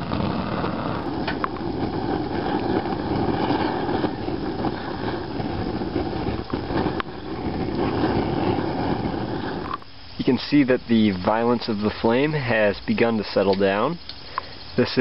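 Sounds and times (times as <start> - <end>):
fire crackles: 0.0 - 15.0
flames rushing: 0.0 - 15.0.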